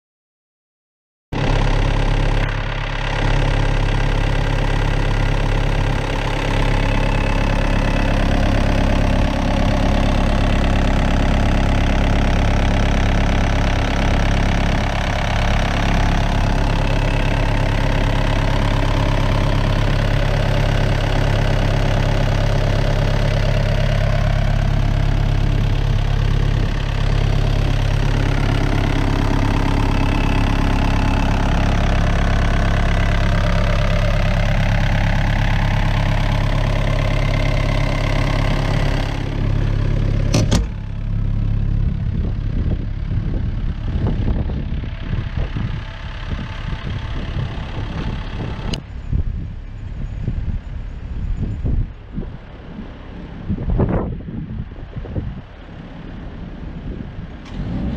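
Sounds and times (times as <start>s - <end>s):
diesel engine idling: 1.4s - 57.9s.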